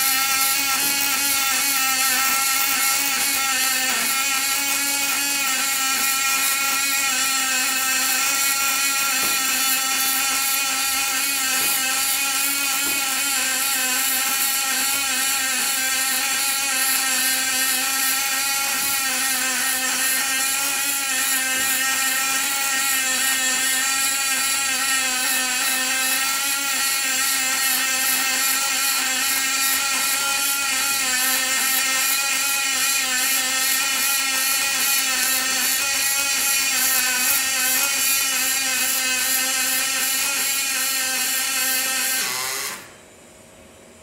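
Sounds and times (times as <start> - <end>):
welding arc buzzing: 0.0 - 43.0.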